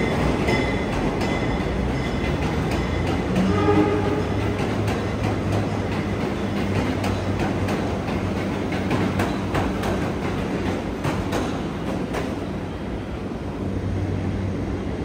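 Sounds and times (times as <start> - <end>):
subway cars rumbling past: 0.0 - 15.0.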